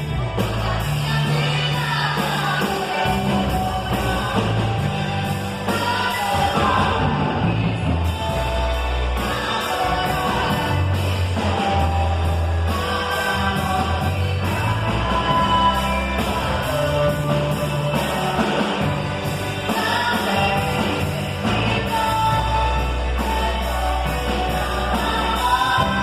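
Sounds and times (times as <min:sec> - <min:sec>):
bass: 0:00.0 - 0:26.0
drums: 0:00.0 - 0:26.0
person singing: 0:00.0 - 0:26.0.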